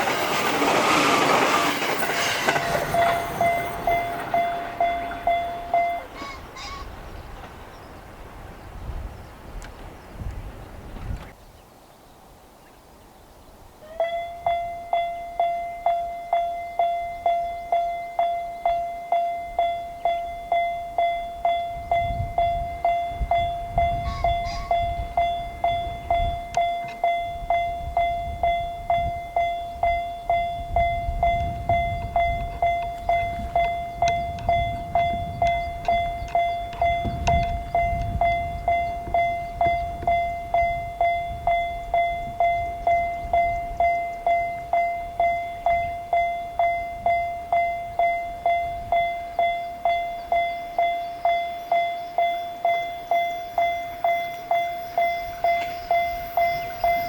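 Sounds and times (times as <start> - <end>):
level-crossing alarm bell: 0.0 - 6.6, 14.0 - 57.0
passing train rumble: 0.0 - 11.4, 13.7 - 57.0.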